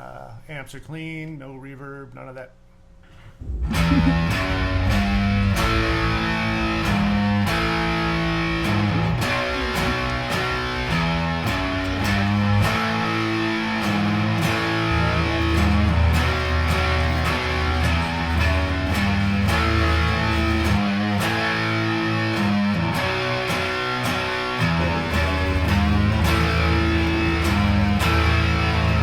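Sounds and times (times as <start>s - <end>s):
fuzz electric guitar riff: 3.4s - 29.0s.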